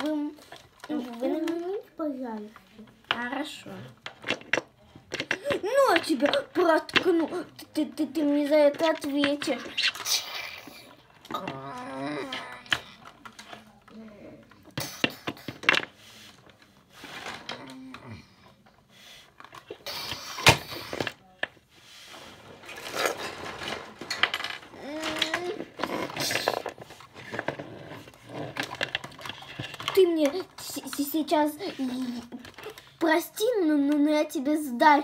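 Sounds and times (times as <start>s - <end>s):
plastic toys clattering: 0.0s - 21.7s, 22.4s - 35.0s.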